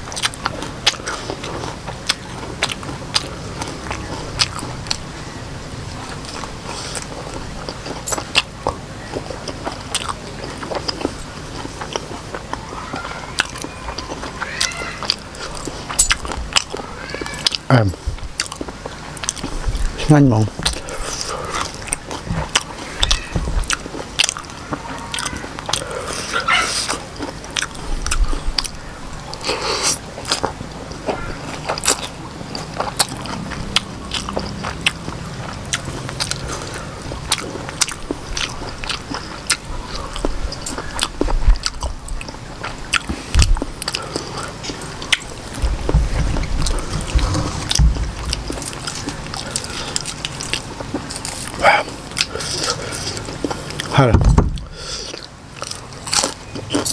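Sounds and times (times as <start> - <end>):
person chewing crunchy food: 0.0 - 56.9.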